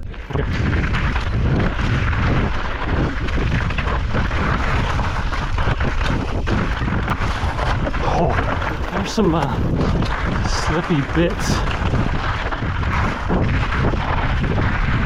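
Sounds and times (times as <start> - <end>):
bike rattling: 0.0 - 15.0
bike tyres crunching on gravel: 0.0 - 15.0
wind rumbling on microphone: 0.0 - 15.0.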